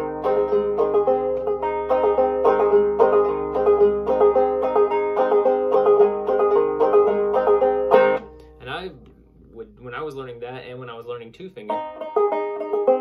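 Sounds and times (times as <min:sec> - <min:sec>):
banjo picking: 0:00.0 - 0:13.0.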